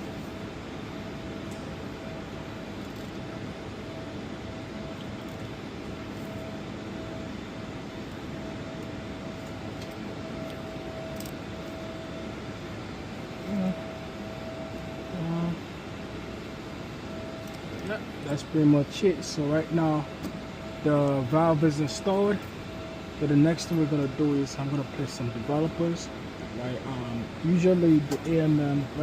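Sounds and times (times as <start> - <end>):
machinery hum: 0.0 - 29.0.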